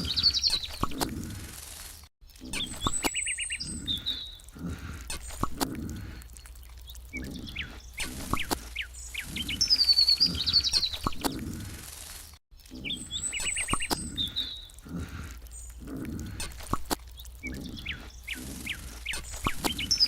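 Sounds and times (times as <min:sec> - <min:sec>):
songbirds chirping and trilling: 0:00.0 - 0:01.7, 0:02.3 - 0:20.0.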